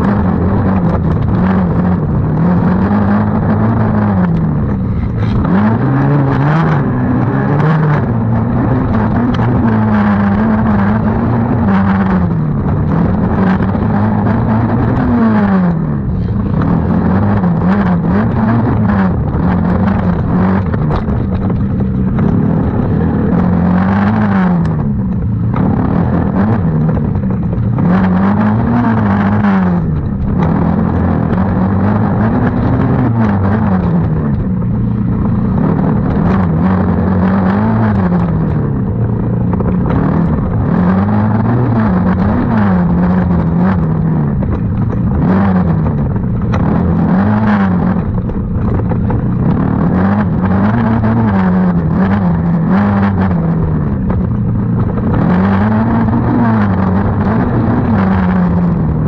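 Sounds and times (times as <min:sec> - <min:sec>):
small racing engine revving: 0:00.0 - 0:59.0.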